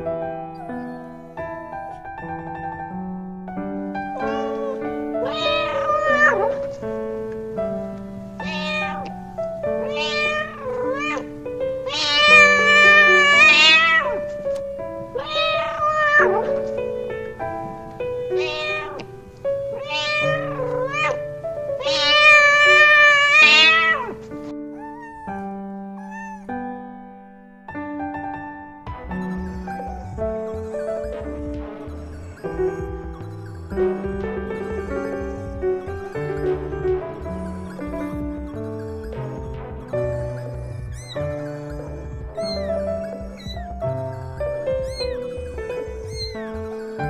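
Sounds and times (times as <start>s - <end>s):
background music: 0.0s - 47.0s
cat meowing: 0.5s - 2.1s, 4.0s - 26.7s, 28.9s - 47.0s.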